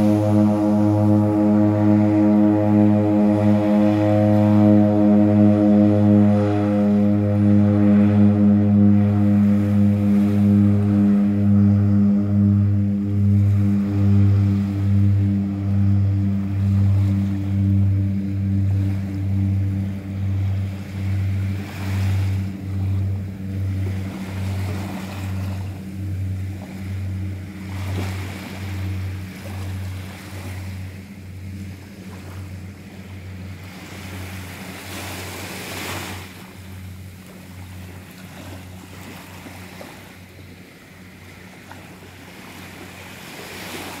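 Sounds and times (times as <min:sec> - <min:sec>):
propeller plane drone: 0:00.0 - 0:44.0
wind: 0:00.0 - 0:44.0.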